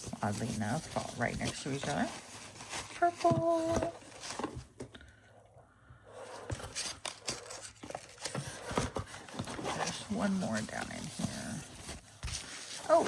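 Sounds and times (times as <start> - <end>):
styrofoam rustling and scraping: 0.0 - 4.8, 6.1 - 13.0.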